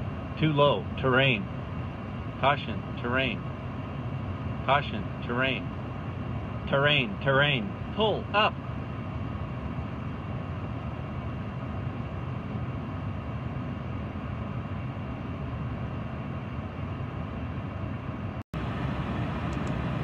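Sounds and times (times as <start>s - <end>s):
cooling fans and air conditioning hum: 0.0s - 20.0s.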